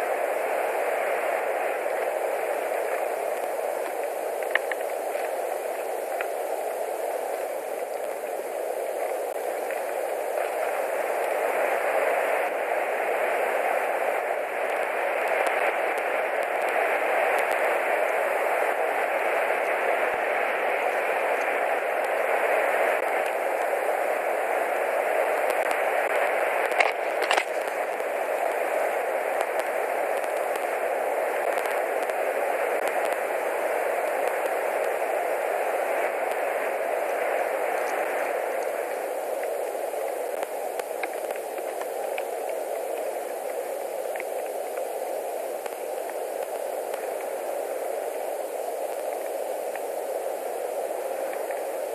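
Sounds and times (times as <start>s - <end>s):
microphone hiss: 0.0s - 51.9s.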